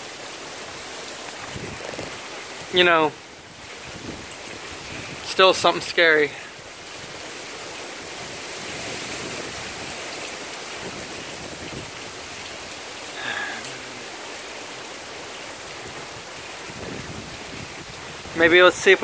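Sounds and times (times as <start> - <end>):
heavy rain and wind hissing: 0.0 - 19.0.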